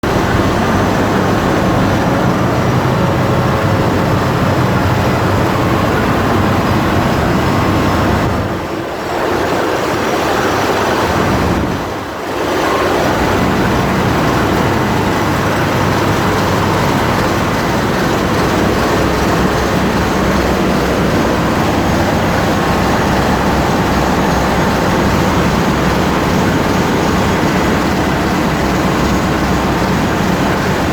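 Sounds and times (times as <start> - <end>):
marine diesel engine drone: 0.0 - 30.9.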